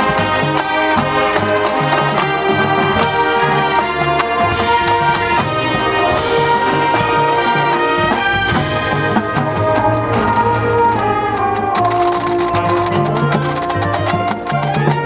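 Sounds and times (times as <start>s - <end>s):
brass section playing chords: 0.0s - 15.0s
percussion strokes: 0.0s - 15.0s.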